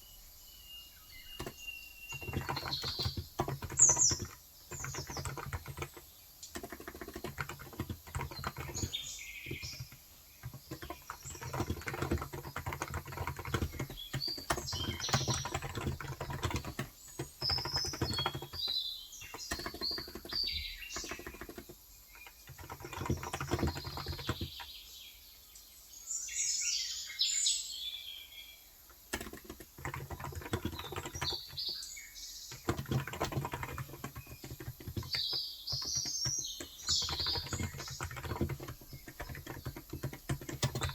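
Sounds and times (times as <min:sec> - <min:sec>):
small birds chirping: 0:00.0 - 0:40.9
soft keyboard keystrokes: 0:01.2 - 0:24.7, 0:28.9 - 0:31.8, 0:32.5 - 0:40.9.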